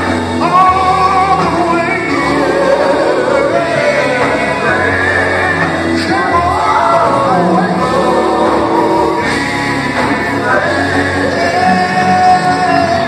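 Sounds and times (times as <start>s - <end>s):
backing singers: 0.0s - 13.0s
band playing: 0.0s - 13.0s
man singing gospel: 0.0s - 13.0s.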